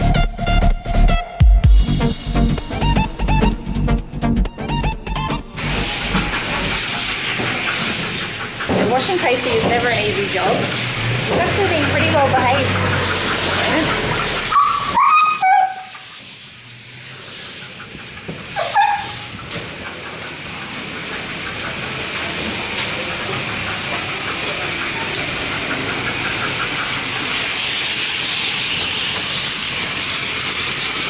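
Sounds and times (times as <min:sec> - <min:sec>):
hose spray hissing: 0:04.6 - 0:19.6, 0:20.2 - 0:31.0.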